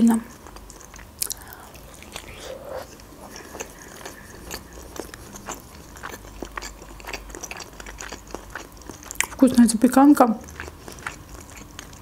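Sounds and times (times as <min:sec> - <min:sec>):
person chewing mouth sounds: 0:00.0 - 0:12.0.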